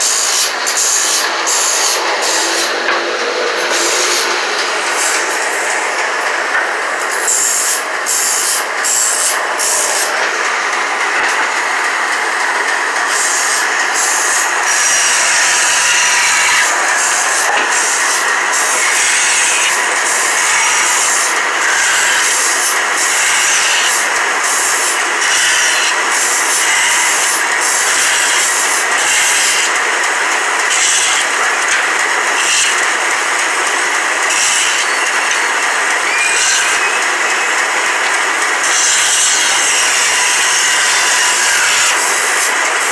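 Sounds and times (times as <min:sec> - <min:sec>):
band saw cutting wood: 0:00.0 - 0:42.9.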